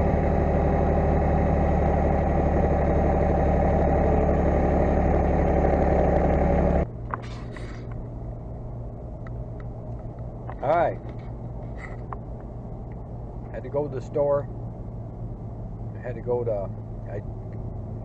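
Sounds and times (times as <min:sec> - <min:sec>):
low steady cab hum: 0:00.0 - 0:18.0
tractor diesel engine running: 0:00.0 - 0:18.0.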